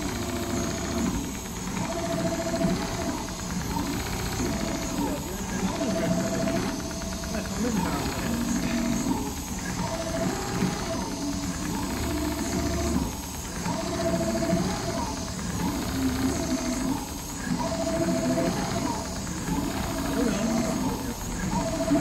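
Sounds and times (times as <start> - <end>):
motor whine: 0.0 - 22.0
sewing machine mechanical hiss: 0.0 - 22.0.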